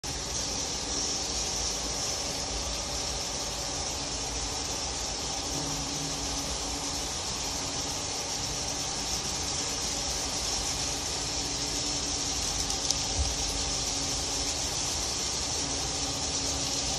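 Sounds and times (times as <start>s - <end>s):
misting fogger hissing: 0.0s - 16.9s.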